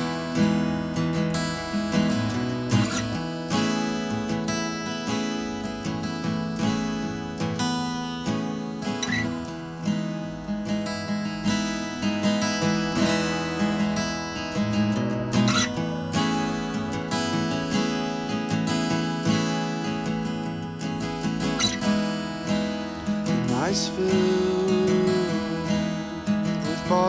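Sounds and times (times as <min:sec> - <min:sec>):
acoustic guitar chords: 0:00.0 - 0:27.0.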